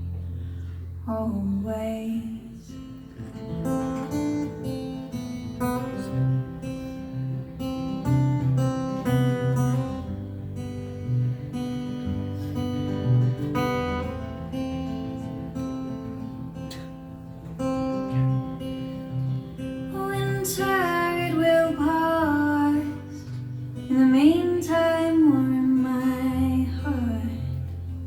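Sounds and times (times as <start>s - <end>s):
acoustic guitar strumming chords: 0.0s - 28.0s.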